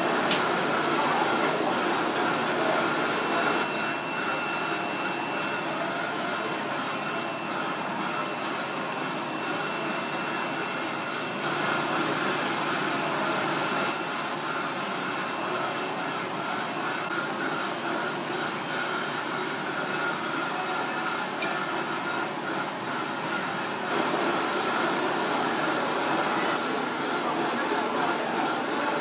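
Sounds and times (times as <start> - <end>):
machine background noise: 0.0 - 29.0.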